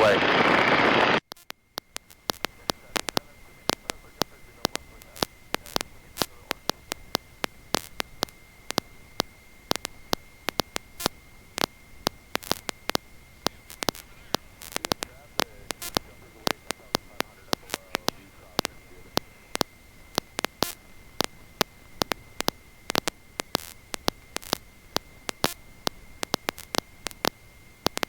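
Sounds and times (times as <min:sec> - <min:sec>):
crackling static clicks: 0:00.0 - 0:28.0
faint high whine: 0:00.0 - 0:28.0.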